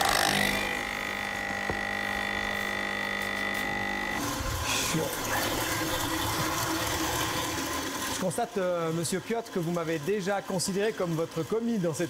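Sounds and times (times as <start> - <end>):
coffee liquid running: 0.0 - 12.0
coffee machine humming: 0.0 - 12.0.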